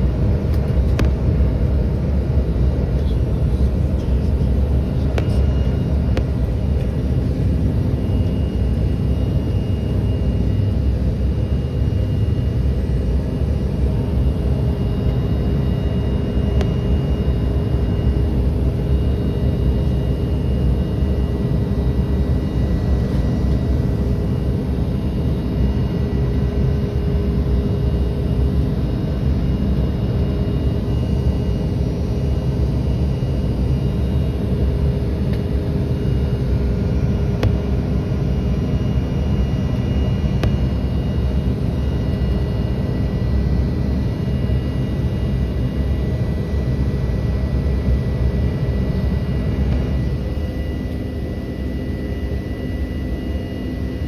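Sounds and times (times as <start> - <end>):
faint steady whining tones: 0.0 - 54.0
jet cabin engine rumble: 0.0 - 54.0.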